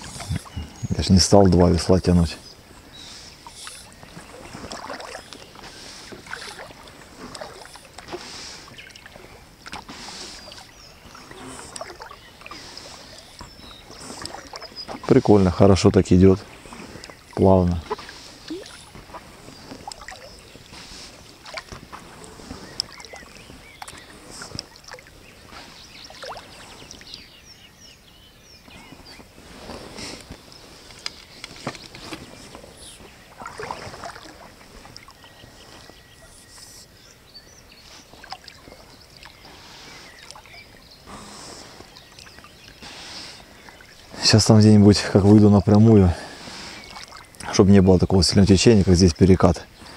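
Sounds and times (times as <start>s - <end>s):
paddle splashing water: 0.0s - 47.6s.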